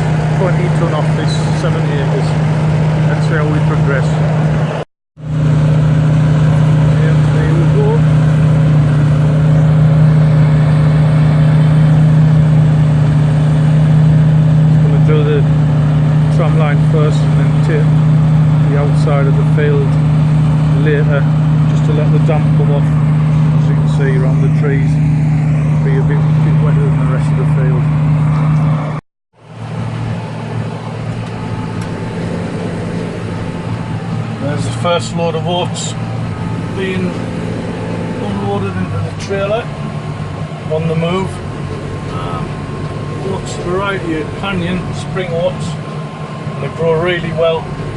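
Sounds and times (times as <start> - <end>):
combine harvester engine hum: 0.0 - 47.9.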